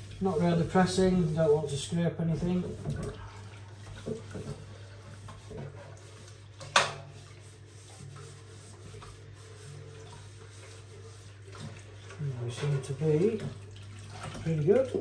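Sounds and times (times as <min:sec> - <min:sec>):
hand rubbing drawer in water: 0:00.0 - 0:13.6.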